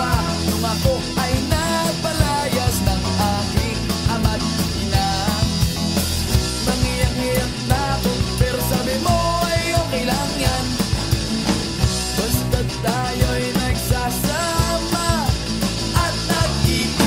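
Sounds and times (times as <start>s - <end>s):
bass: 0.0s - 17.0s
steady drum beat: 0.0s - 17.0s.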